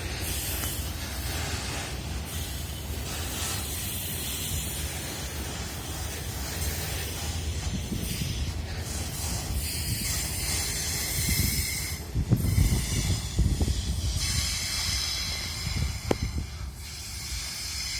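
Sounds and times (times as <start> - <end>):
steady hiss: 0.0 - 17.9
train rumbling on rails: 0.0 - 17.9.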